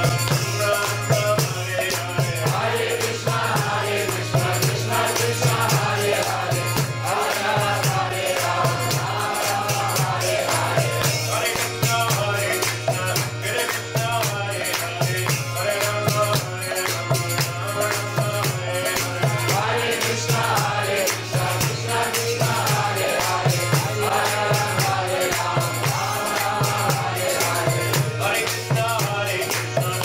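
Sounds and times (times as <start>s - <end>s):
jingling hand percussion: 0.0s - 30.0s.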